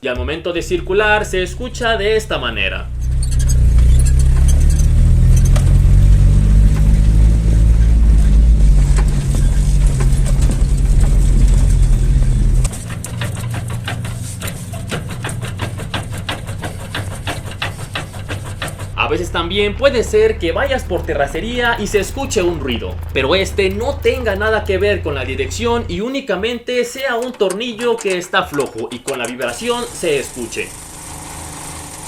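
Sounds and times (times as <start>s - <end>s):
sharp clunks and rattles: 0.0s - 30.4s
car driving rumble: 0.0s - 32.0s
suspension knocking: 0.0s - 32.0s.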